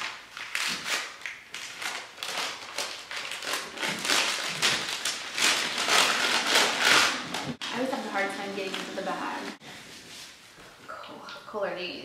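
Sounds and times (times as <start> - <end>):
tissue paper crinkling: 0.0 - 10.5.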